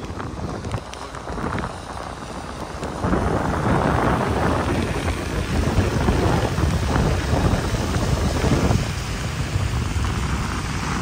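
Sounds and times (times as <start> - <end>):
scooter engine and road noise: 0.0 - 11.0
wind buffeting microphone: 0.0 - 11.0.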